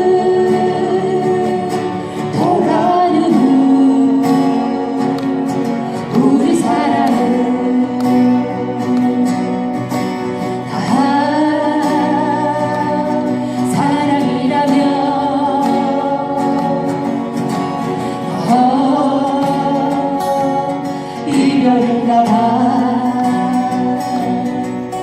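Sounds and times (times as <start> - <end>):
band playing slow ballad: 0.0 - 25.0
guitar accompaniment: 0.0 - 25.0
held vocal melody with vibrato: 0.0 - 25.0.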